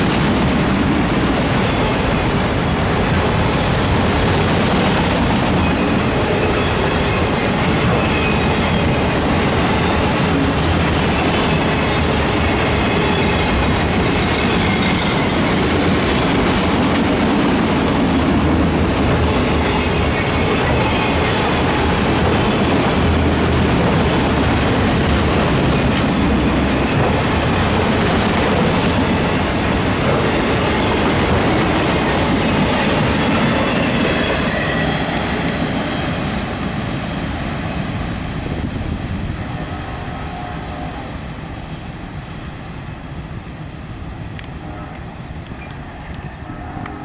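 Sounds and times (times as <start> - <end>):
freight train rolling past: 0.0 - 47.0.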